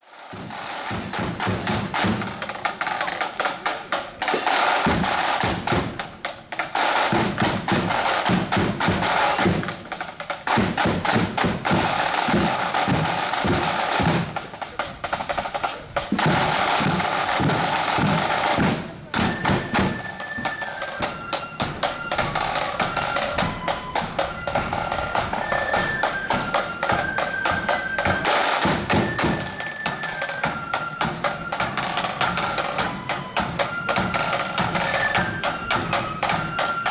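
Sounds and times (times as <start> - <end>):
snare drums rolling: 0.1 - 36.9
flutes playing high tune: 0.7 - 10.6, 16.2 - 36.9.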